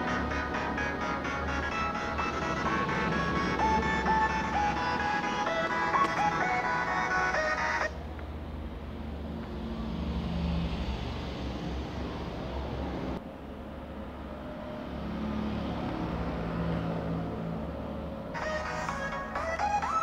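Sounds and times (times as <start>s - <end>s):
motor vehicle rumbling: 0.0s - 20.0s.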